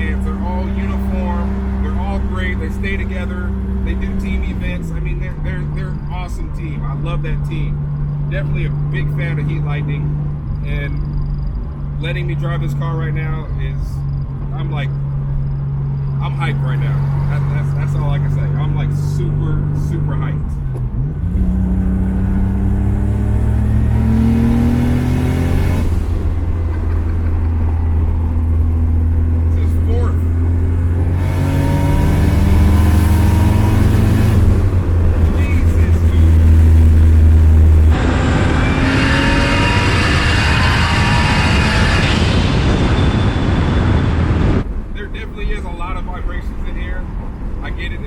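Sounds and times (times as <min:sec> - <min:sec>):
car engine accelerating: 0:00.0 - 0:46.5.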